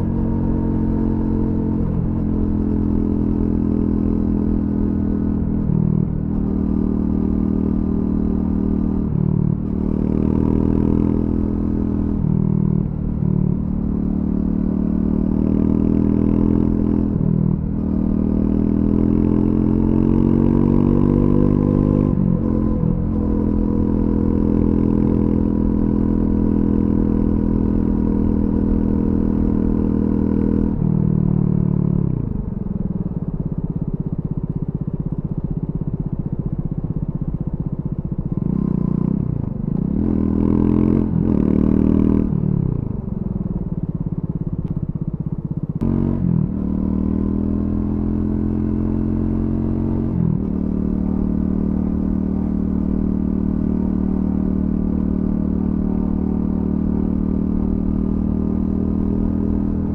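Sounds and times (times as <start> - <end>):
motorcycle engine revving: 0.0 - 36.1, 37.6 - 59.9.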